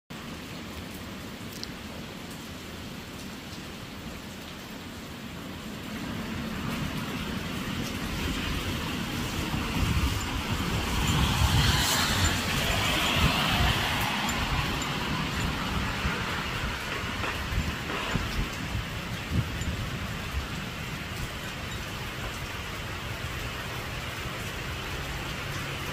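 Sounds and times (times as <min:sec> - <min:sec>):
rain: 0:00.1 - 0:25.9
wind: 0:00.1 - 0:25.9
tyres hissing on wet road: 0:00.2 - 0:25.9.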